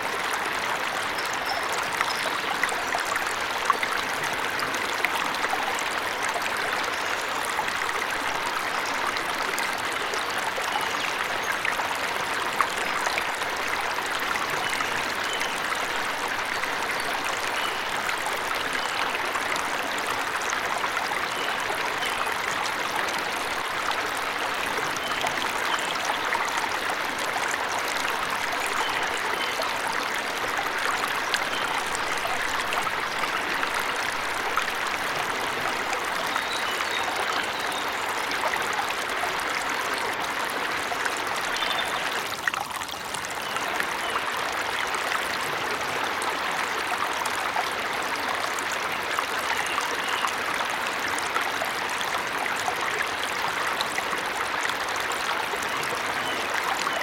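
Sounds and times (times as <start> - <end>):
waterfall splashing and trickling: 0.0 - 57.0.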